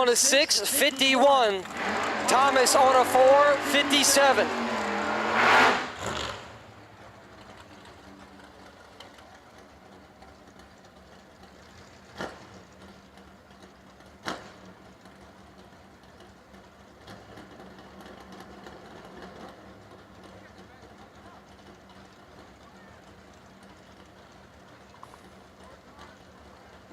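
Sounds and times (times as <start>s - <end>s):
race car engines idling: 0.0s - 26.9s.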